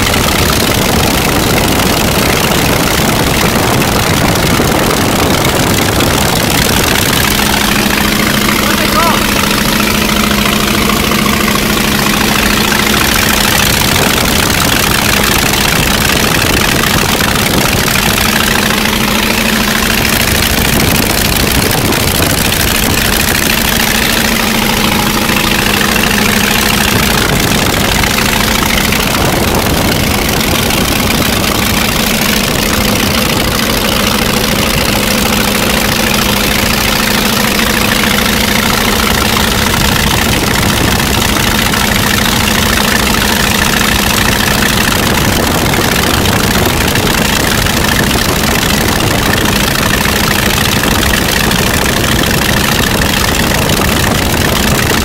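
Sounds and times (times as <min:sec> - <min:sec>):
wind rush over microphone: 0:00.0 - 0:08.6, 0:09.3 - 0:36.8, 0:37.7 - 0:55.0
radial aircraft engine running: 0:00.0 - 0:55.0.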